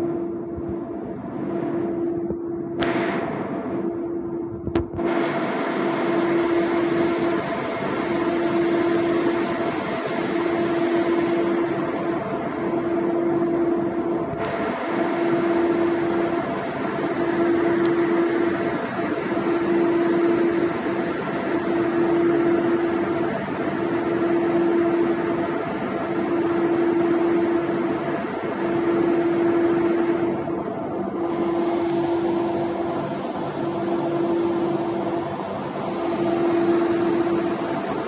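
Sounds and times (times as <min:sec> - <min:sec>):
boat machinery drone: 0:00.0 - 0:38.0
interrupted hum: 0:00.0 - 0:38.0.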